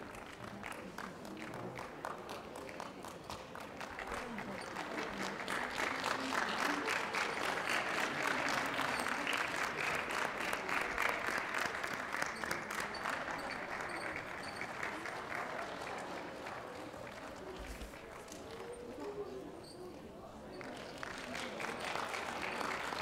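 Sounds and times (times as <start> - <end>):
audience clapping: 0.0 - 19.8, 20.5 - 23.0.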